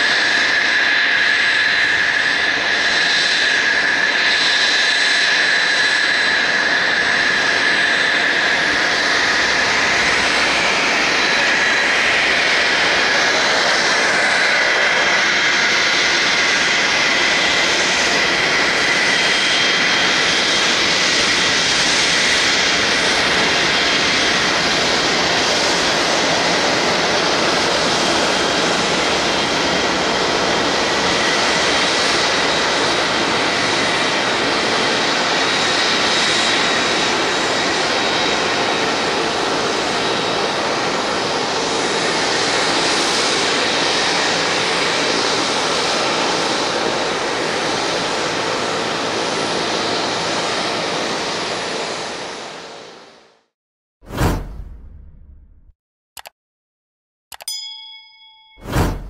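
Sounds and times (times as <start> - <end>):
jet engine rush with whine: 0.0 - 53.4, 54.1 - 56.3, 58.6 - 59.0.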